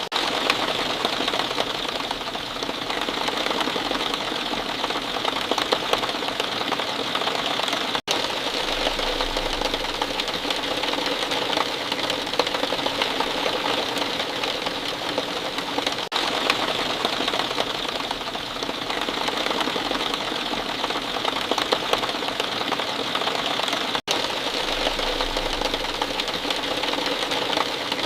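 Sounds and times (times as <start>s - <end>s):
steady rain patter: 0.0s - 28.0s.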